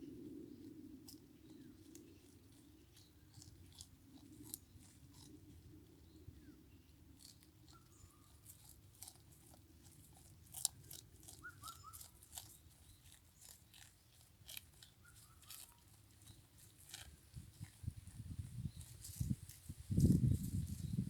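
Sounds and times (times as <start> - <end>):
goat chewing grass: 0.6 - 21.0.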